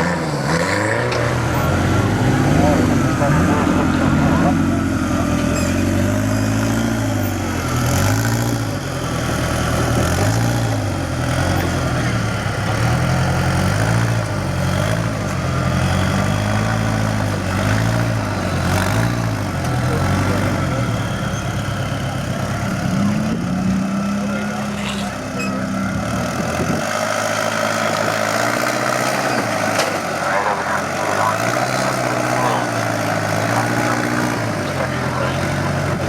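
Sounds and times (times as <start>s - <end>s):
engine revving: 0.0s - 36.0s.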